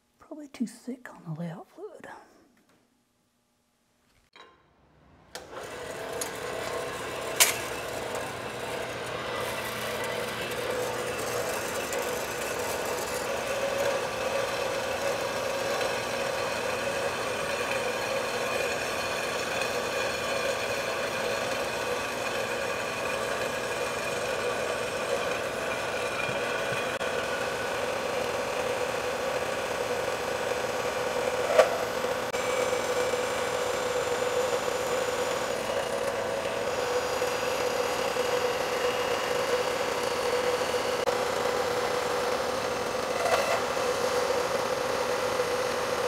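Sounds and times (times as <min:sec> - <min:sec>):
bandsaw cutting metal: 0:05.4 - 0:46.0.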